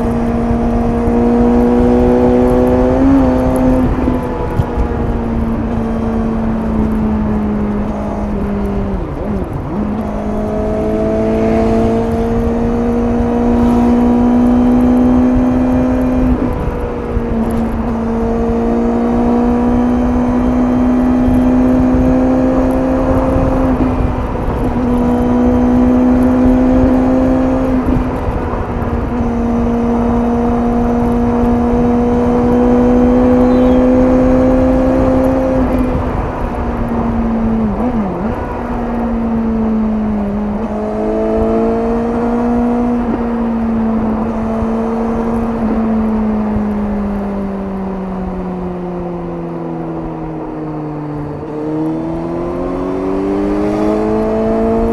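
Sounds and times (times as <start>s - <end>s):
motorcycle engine at speed: 0.0s - 54.9s
wind rush: 0.0s - 54.9s.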